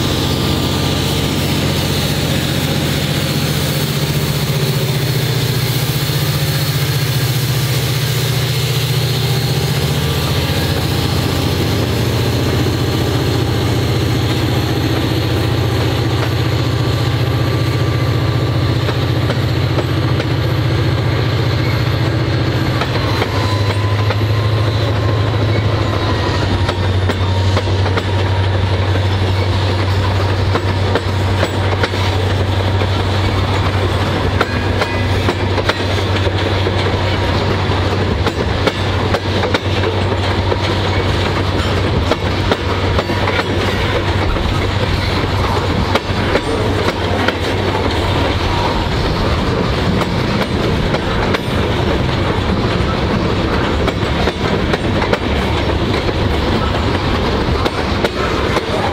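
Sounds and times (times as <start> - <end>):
diesel locomotive engine under load: 0.0 - 58.9
train wheels clicking over rail joints: 0.0 - 58.9.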